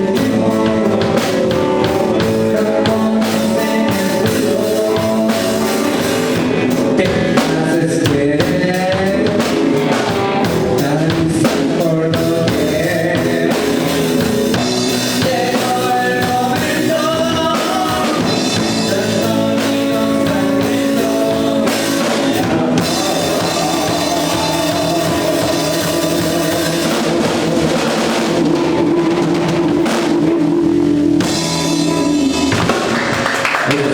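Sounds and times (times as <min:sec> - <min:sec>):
blues band playing: 0:00.0 - 0:33.9
drum kit: 0:00.0 - 0:33.9
electric guitar: 0:00.0 - 0:33.9
person singing: 0:00.0 - 0:33.9.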